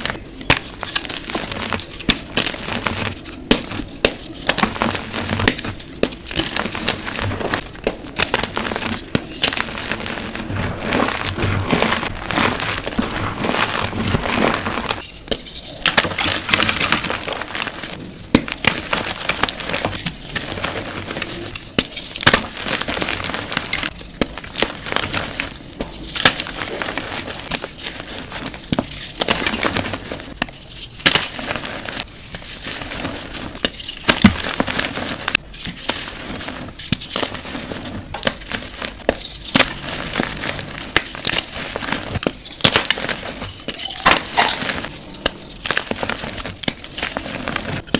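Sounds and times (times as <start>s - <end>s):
gym chalk being crushed: 0.0s - 47.9s.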